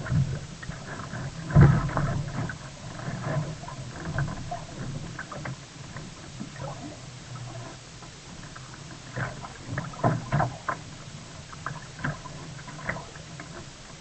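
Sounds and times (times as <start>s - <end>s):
water splashing against kayak: 0.0s - 14.0s.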